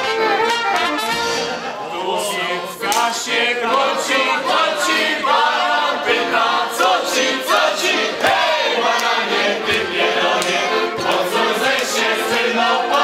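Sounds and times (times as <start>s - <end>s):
accordion: 0.0s - 13.0s
violins: 0.0s - 13.0s
group of voices singing: 1.3s - 13.0s.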